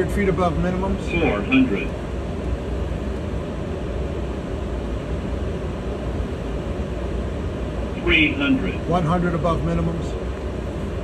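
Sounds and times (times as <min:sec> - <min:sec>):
aircraft cockpit engine noise: 0:00.0 - 0:11.0.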